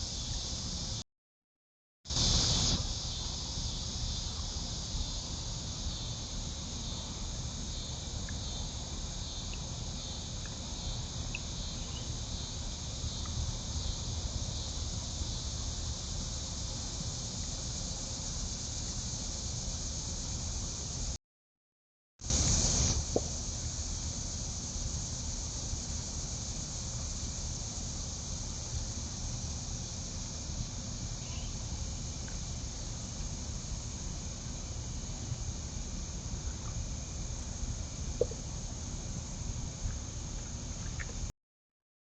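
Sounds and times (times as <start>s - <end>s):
crickets and insects trilling: 0.0s - 1.0s, 2.1s - 21.2s, 22.2s - 41.3s
microphone hiss: 0.0s - 1.0s, 2.1s - 21.2s, 22.2s - 41.3s.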